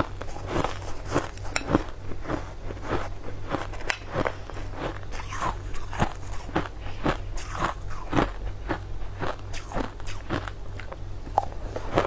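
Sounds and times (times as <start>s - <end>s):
ice crunching between teeth: 0.0s - 12.0s.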